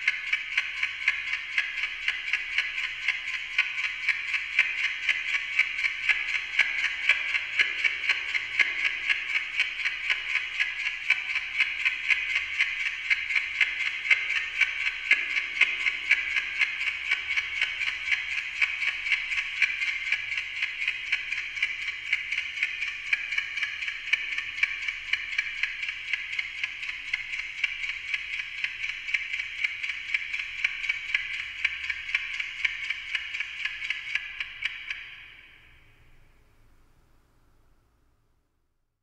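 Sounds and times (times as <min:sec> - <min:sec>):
clock ticking with delay echoes: 0:00.0 - 0:36.3.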